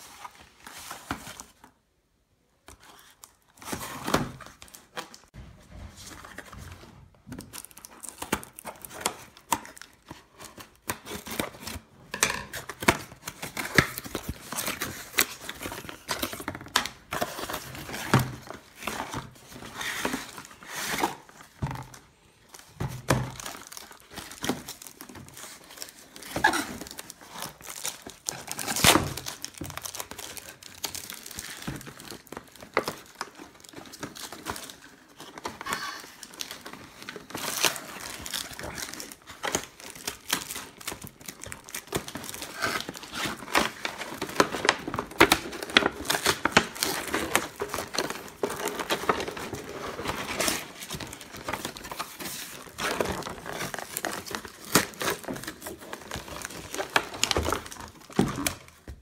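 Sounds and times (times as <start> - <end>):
paper crinkling and rustling: 2.6 - 59.0.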